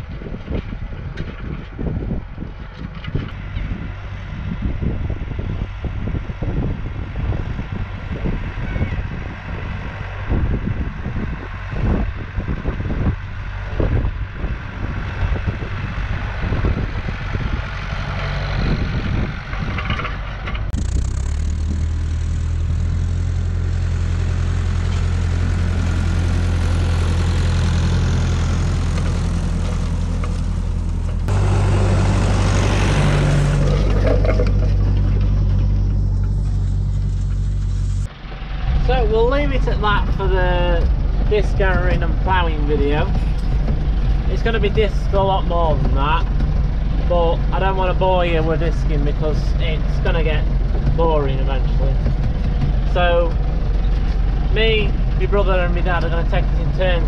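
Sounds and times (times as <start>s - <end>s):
tractor diesel engine running: 0.0s - 57.0s
wind buffeting microphone: 0.0s - 57.0s.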